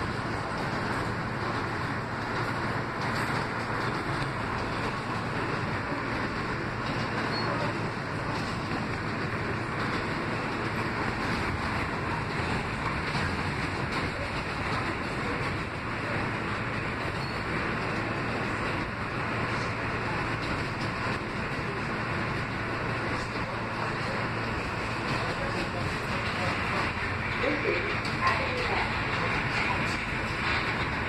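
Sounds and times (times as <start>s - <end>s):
subway car running on rails: 0.0s - 31.0s.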